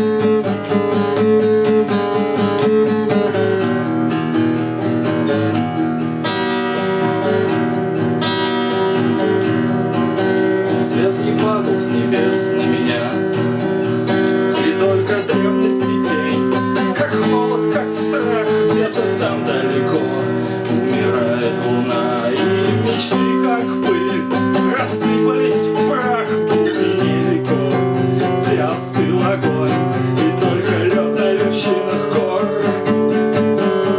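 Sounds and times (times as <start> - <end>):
acoustic guitar strumming chords: 0.0 - 33.9.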